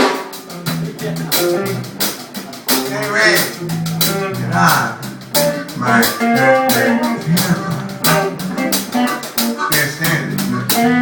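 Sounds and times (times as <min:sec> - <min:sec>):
band playing a song: 0:00.0 - 0:11.0
drum kit beat: 0:00.0 - 0:11.0
guitar: 0:00.0 - 0:11.0.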